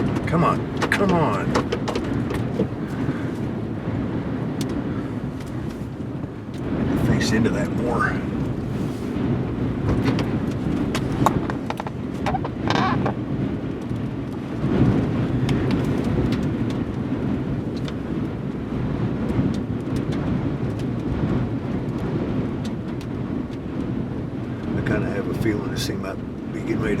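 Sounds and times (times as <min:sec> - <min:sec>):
debris or rain ticking: 0:00.0 - 0:24.9
strong wind buffeting microphone: 0:00.0 - 0:27.0.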